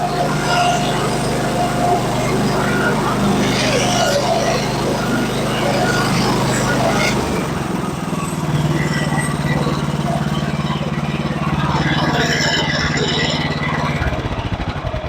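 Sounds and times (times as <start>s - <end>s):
engine-driven saw cutting lumber: 0.0s - 15.0s.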